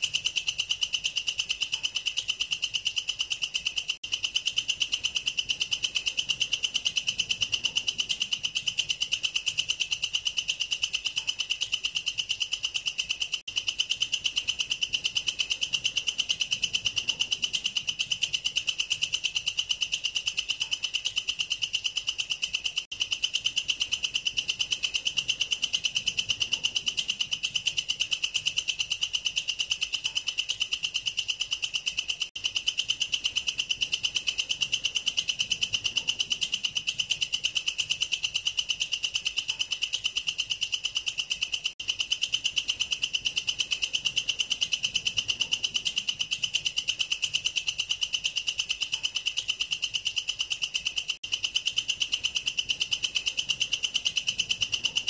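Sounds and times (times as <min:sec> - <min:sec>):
katydid shrill pulsed trill: 0:00.0 - 0:55.0.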